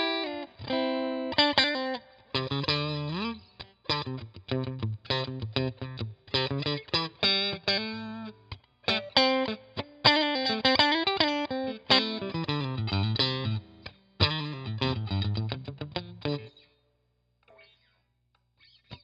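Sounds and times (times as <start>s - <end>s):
electric guitar playing: 0.0s - 16.7s.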